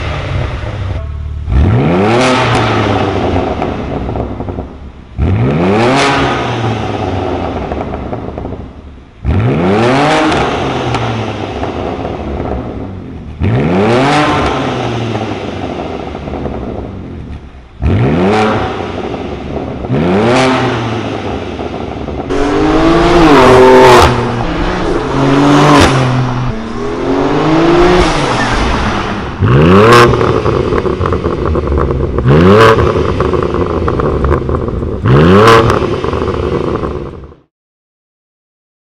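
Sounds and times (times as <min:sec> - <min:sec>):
car engine revving: 0:00.0 - 0:08.6, 0:09.2 - 0:37.3.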